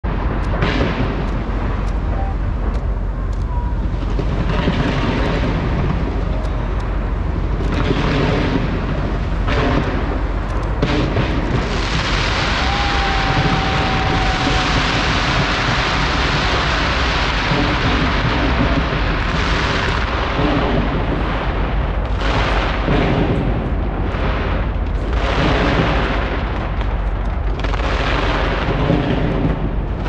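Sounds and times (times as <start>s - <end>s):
fireworks bursting and cracking: 0.0s - 30.0s
fireworks crackling hiss: 0.4s - 30.0s.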